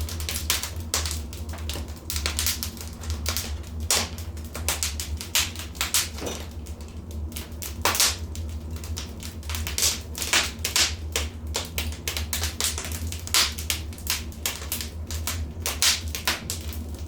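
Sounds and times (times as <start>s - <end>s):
fire popping and snapping: 0.0s - 17.0s
low rumble of fire: 0.0s - 17.0s.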